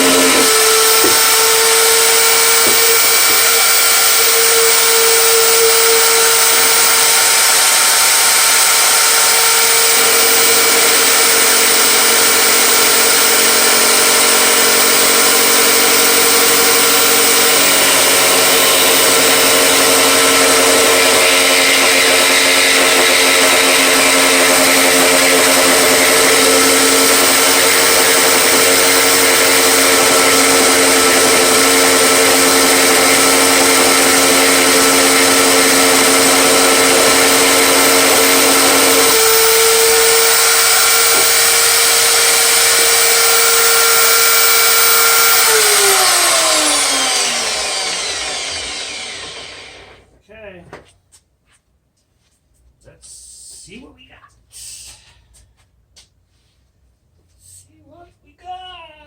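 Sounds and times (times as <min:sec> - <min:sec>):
power tool cutting wood: 0:00.0 - 0:50.1.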